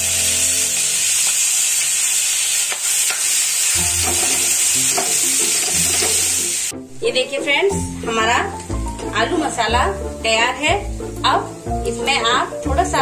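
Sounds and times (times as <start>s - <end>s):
background music: 0.0s - 1.7s, 3.7s - 13.0s
food sizzling in a pan: 0.0s - 13.0s.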